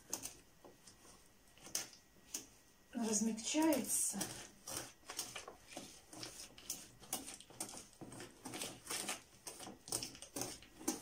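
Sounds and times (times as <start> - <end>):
whisk beating butter mixture: 0.0 - 11.0.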